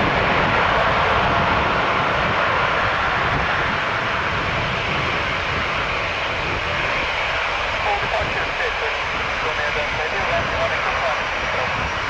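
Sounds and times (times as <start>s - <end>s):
jet engines at high power: 0.0s - 12.0s.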